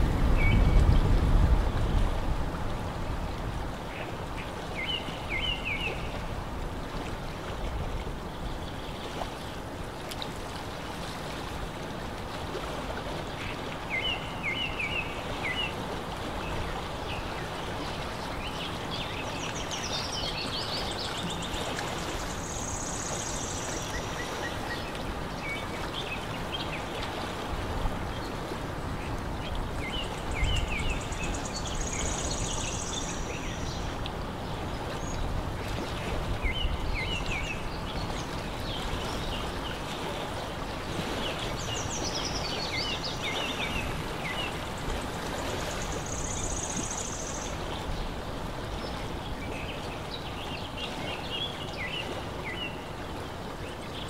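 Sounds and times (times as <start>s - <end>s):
rippling lake water: 0.0s - 54.0s.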